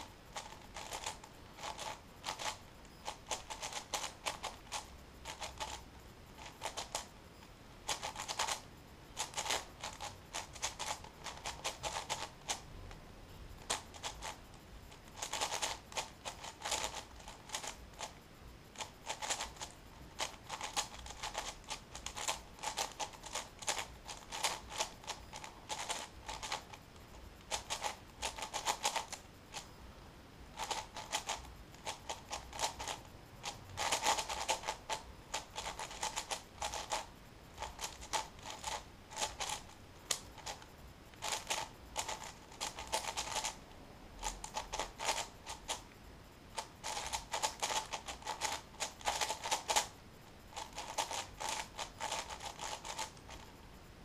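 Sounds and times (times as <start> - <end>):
puzzle cube clicking rapidly: 0.0 - 7.2, 7.8 - 13.0, 13.6 - 29.8, 30.5 - 53.6.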